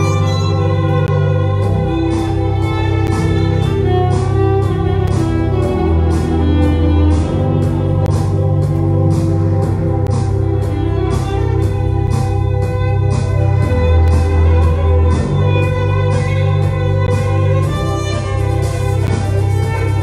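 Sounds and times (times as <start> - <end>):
electric violin melody: 0.0 - 20.0
keyboard bass and chords: 0.0 - 20.0
steady drum beat: 0.0 - 20.0.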